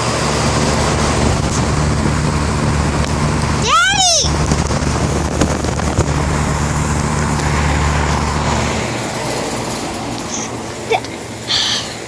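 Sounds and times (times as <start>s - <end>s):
rush of fan air: 0.0s - 12.0s.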